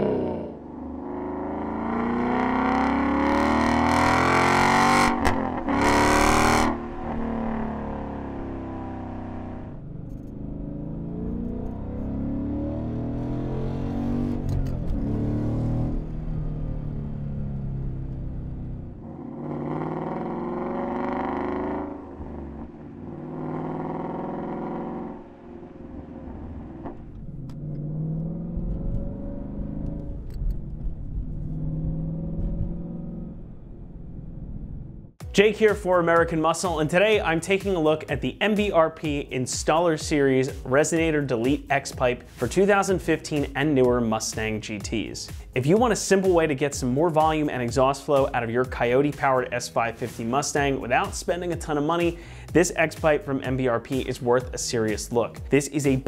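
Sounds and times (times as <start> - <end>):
car exhaust revving and accelerating: 0.0 - 56.0.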